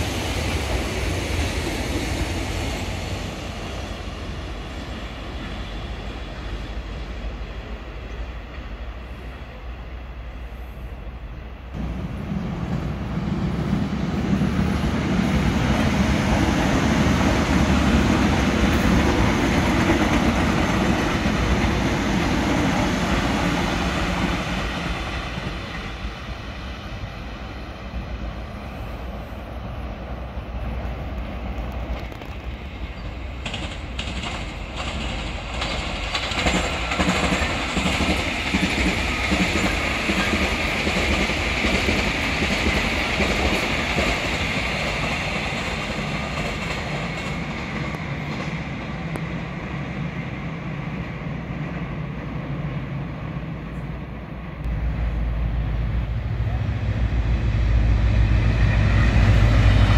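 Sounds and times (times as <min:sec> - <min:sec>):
rail noise of passing train: 0:00.0 - 0:59.9
train rumbling past: 0:00.0 - 0:59.9.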